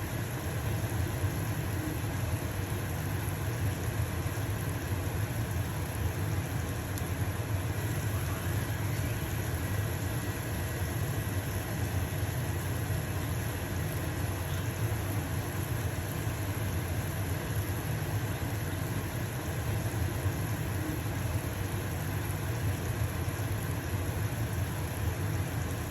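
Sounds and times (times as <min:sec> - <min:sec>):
range hood fan humming: 0:00.0 - 0:25.9.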